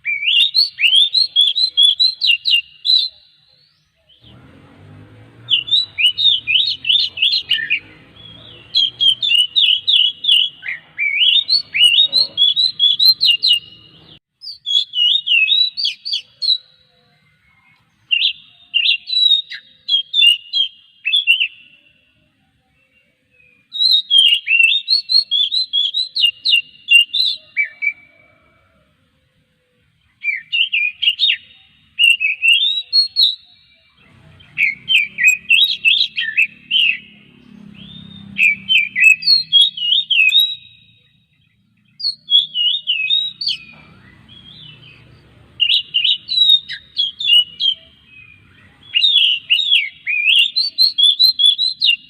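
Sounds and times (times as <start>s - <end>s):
bird singing high whistles: 0.0s - 4.4s, 5.4s - 16.8s, 17.4s - 22.0s, 23.4s - 28.5s, 30.2s - 41.4s, 42.0s - 52.0s.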